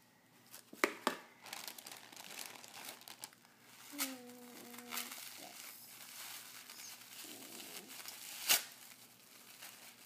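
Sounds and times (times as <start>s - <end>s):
plastic bag crinkling: 1.4s - 10.0s.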